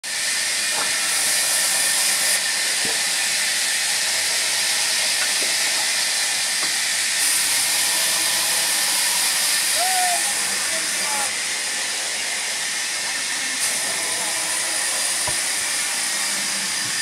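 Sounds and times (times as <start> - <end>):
saw cutting through log: 0.0 - 17.0.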